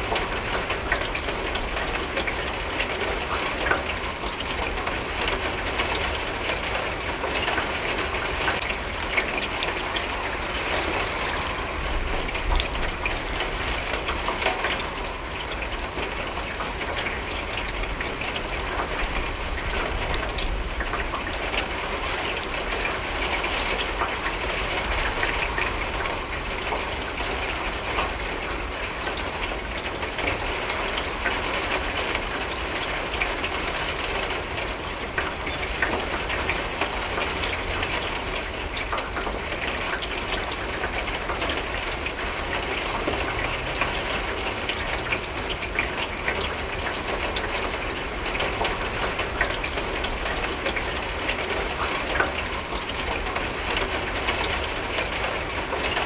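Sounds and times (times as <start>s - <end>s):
rain against a window: 0.0s - 56.0s.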